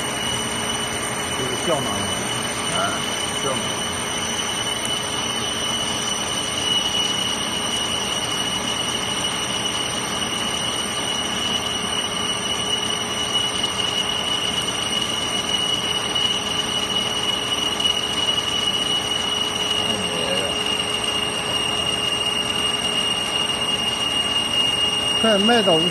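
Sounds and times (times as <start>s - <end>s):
milling cutter whining: 0.0s - 25.9s.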